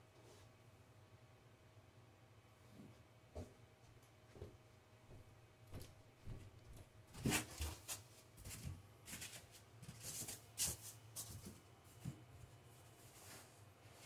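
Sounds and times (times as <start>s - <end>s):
rustling and light knocks: 2.7s - 14.0s.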